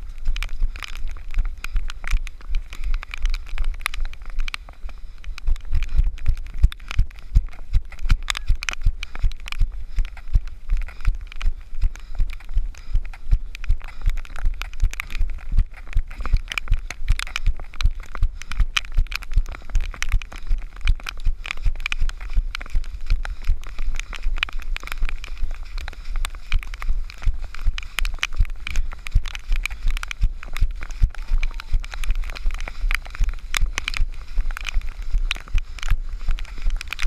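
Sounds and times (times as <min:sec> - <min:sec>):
footsteps splashing on muddy track: 0:00.0 - 0:37.0.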